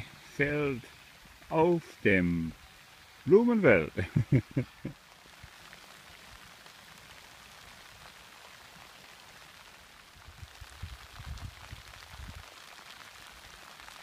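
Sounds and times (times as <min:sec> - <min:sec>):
light rain falling on plants: 0:00.0 - 0:14.0.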